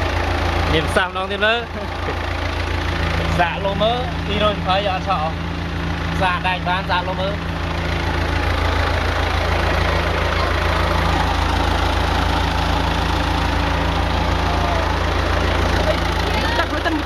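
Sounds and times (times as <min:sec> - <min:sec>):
diesel generator running: 0:00.0 - 0:17.0.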